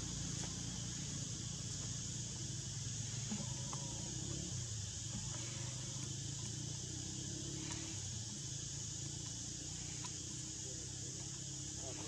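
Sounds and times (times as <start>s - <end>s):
high-pitched insect drone: 0.0s - 12.0s
low forest rumble: 0.0s - 12.0s.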